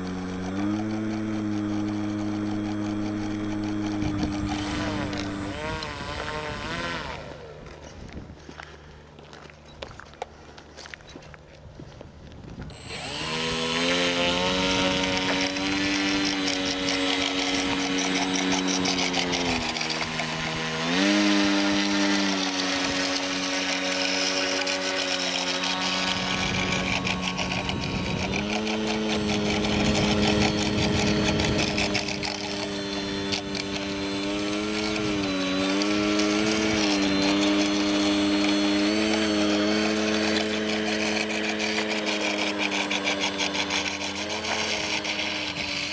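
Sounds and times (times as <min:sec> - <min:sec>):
model plane electric motor whine: 0:00.0 - 0:10.0, 0:12.6 - 0:45.9.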